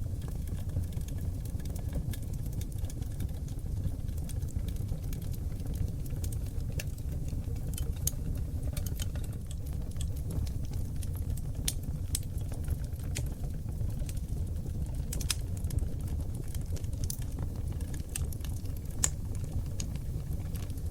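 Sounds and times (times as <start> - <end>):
fire crackling and popping: 0.0 - 20.9
low rush of flame: 0.0 - 20.9.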